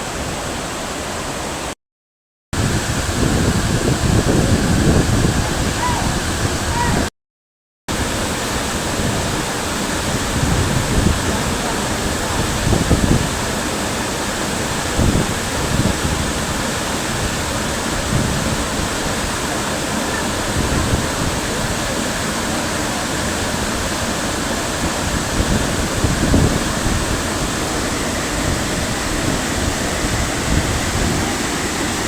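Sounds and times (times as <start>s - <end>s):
waterfall rushing: 0.0s - 1.8s, 2.6s - 7.1s, 7.9s - 32.0s
wind rumble on microphone: 2.6s - 7.1s, 7.9s - 13.9s, 14.6s - 22.2s, 23.3s - 32.0s.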